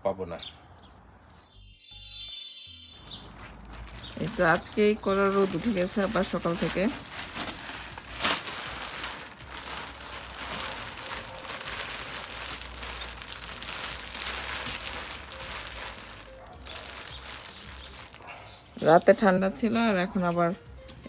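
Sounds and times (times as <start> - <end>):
plastic bag rustling and crinkling: 3.0 - 21.0.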